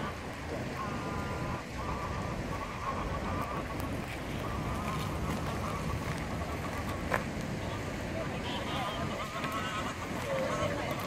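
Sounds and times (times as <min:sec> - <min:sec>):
ducks calling: 0:00.0 - 0:11.0.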